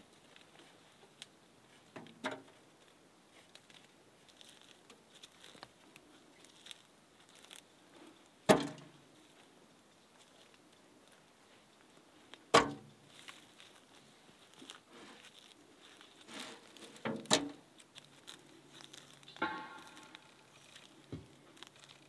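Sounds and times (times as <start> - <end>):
twigs snapping and rustling: 0.0 - 22.0.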